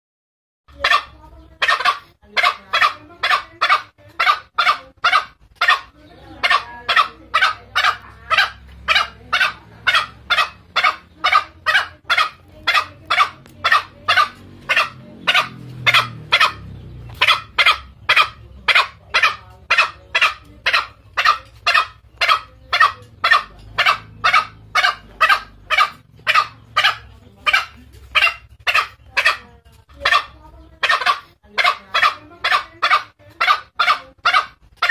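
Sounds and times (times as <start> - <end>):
junglefowl calling hoarse notes: 0.7 - 34.9.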